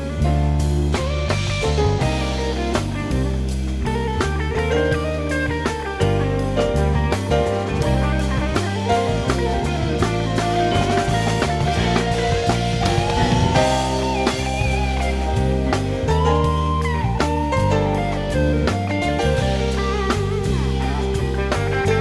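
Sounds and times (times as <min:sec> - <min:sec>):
jazz band playing: 0:00.0 - 0:22.0.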